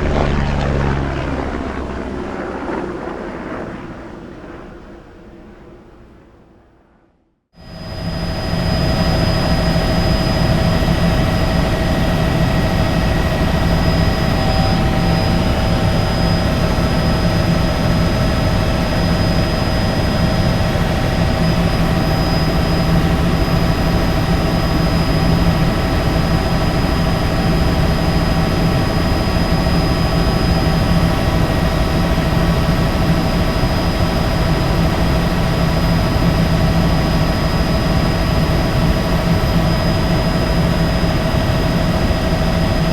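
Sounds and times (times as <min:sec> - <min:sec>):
helicopter running: 0:00.0 - 0:06.0, 0:07.6 - 0:42.9.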